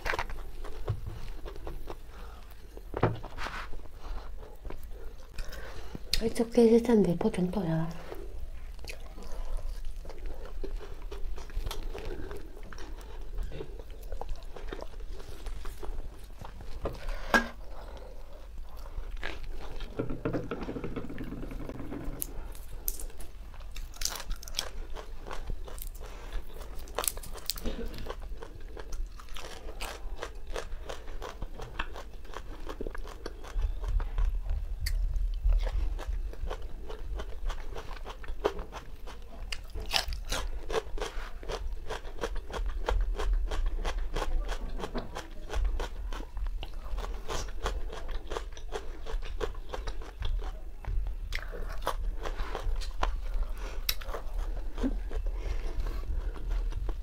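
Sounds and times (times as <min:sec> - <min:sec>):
chewing and crunching: 0:00.0 - 0:02.9, 0:03.5 - 0:06.4, 0:08.0 - 0:20.0, 0:20.6 - 0:57.0.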